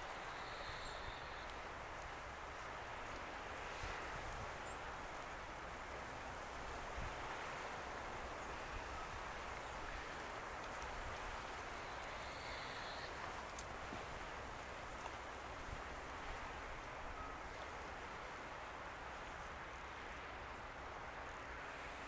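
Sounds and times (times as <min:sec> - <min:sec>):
choppy water: 0:00.0 - 0:22.0
wind: 0:00.0 - 0:22.0
wind rumble on microphone: 0:00.0 - 0:22.0.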